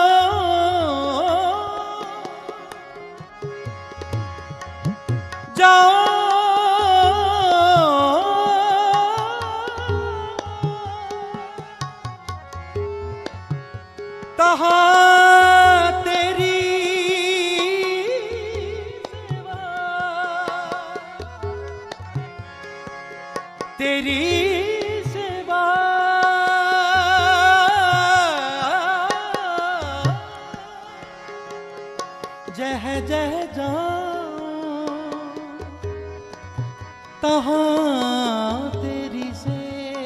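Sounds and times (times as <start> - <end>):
tabla rhythm: 0.0 - 40.0.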